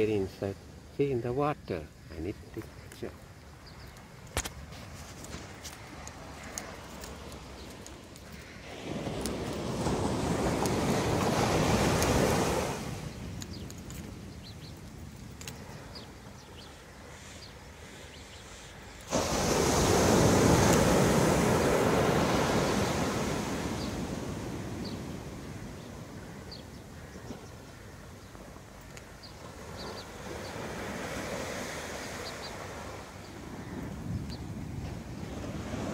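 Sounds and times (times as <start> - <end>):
small waves washing on sand: 2.2 - 16.1, 18.5 - 35.9.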